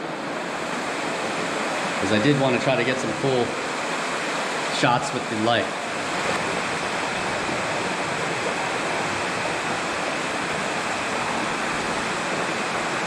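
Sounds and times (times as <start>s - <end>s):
water rushing through tunnel: 0.0s - 13.0s.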